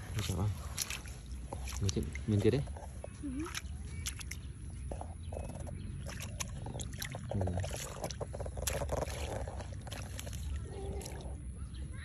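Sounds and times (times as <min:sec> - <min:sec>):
hands splashing in muddy water: 0:00.0 - 0:11.6.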